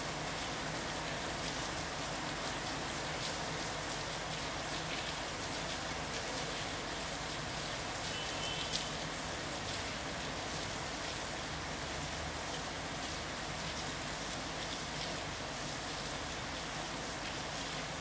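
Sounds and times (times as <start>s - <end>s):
rain on tile roof: 0.0s - 18.0s.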